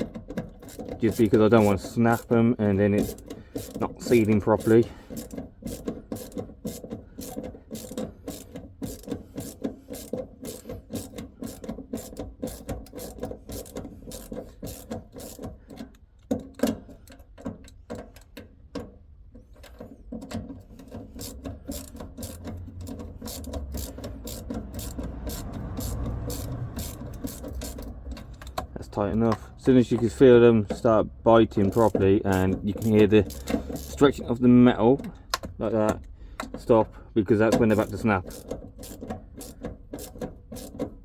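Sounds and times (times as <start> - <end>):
socket ratchet clicking: 0.0 - 18.8, 19.6 - 30.9, 31.6 - 36.6, 37.6 - 41.0.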